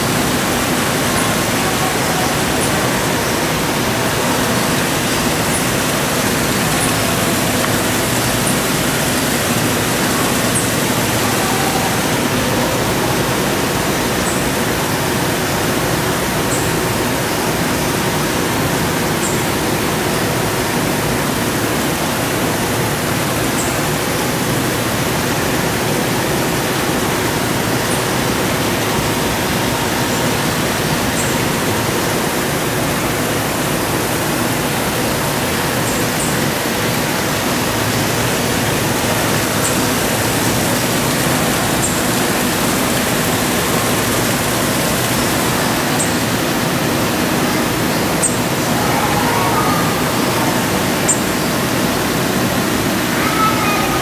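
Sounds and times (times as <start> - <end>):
small waterfall rushing: 0.0 - 54.0.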